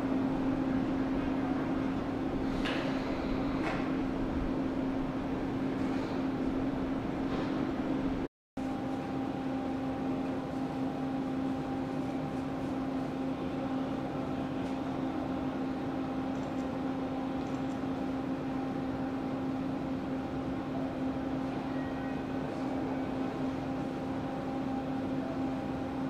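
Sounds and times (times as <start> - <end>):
electric train humming: 0.0 - 26.0.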